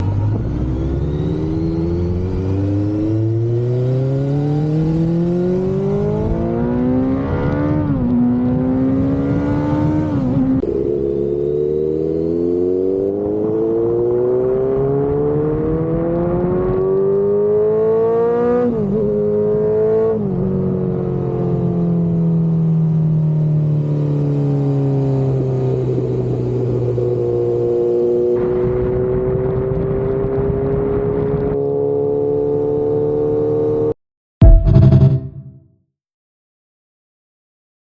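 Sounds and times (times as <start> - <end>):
motorcycle engine accelerating: 0.0 - 35.6.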